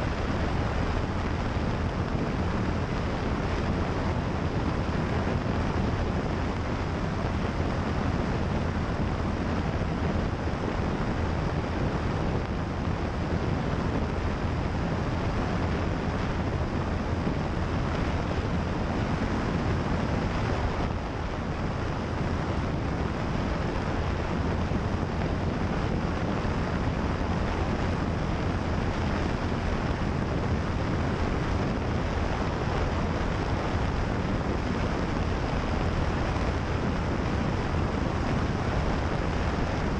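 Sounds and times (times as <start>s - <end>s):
heavy wind rush: 0.0s - 39.9s
propeller aircraft engine drone: 0.0s - 39.9s.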